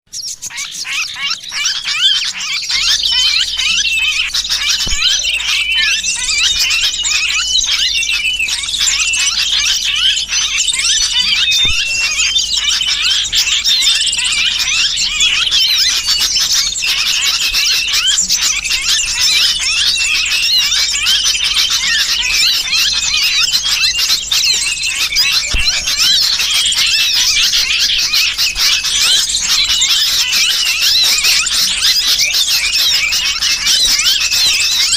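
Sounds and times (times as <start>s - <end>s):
bird distress calls: 0.1s - 34.9s
small birds chirping and squealing: 0.1s - 34.9s.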